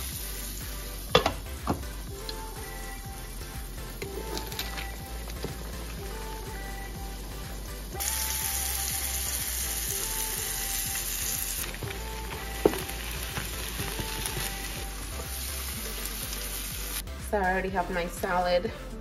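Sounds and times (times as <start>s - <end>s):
oil sizzling in frying pan: 0.0s - 3.2s, 4.0s - 17.0s
soft background music: 0.0s - 19.0s.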